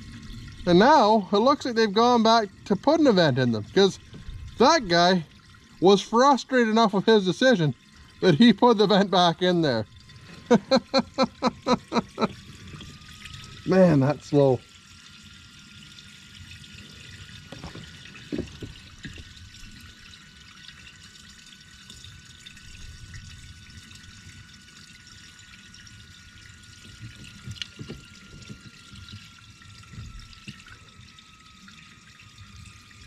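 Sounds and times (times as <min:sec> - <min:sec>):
fuel trickling into tank: 0:00.0 - 0:33.0.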